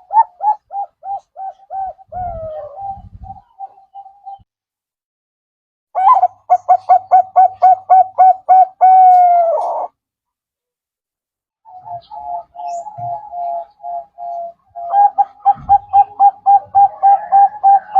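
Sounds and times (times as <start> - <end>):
dove cooing: 0.0 - 4.4, 6.0 - 10.0, 11.7 - 17.9.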